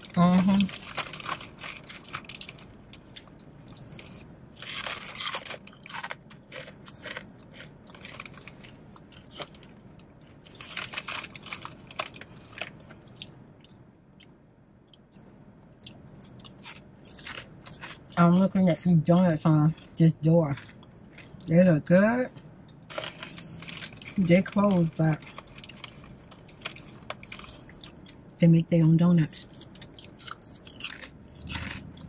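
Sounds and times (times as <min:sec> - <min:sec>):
potato chips crunching: 0:00.0 - 0:13.8, 0:15.0 - 0:18.4, 0:19.7 - 0:21.5, 0:22.7 - 0:28.2, 0:29.4 - 0:32.0.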